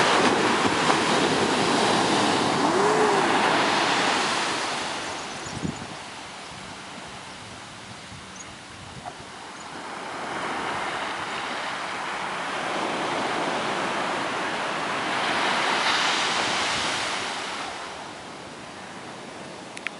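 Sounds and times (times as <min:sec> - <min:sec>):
ocean surf breaking on beach: 0:00.0 - 0:19.8.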